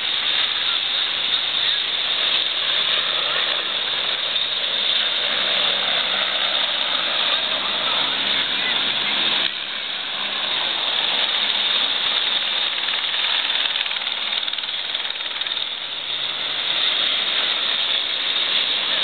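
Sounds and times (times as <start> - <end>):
helicopter rotor and engine: 0.0 - 19.0.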